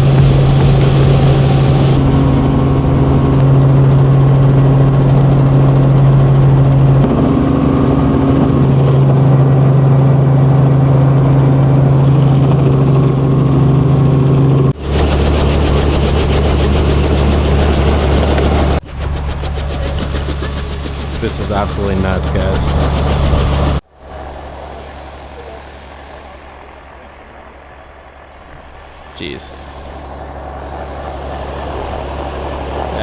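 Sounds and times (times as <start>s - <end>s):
helicopter cabin drone: 0.0s - 33.0s.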